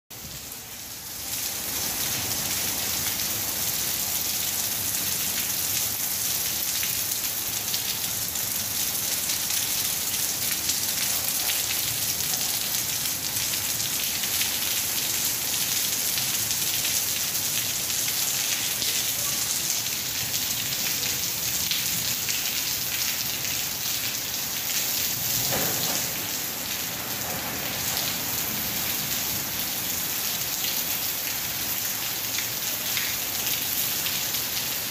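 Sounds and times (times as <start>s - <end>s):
heavy rain on paving and foliage: 0.1s - 34.9s.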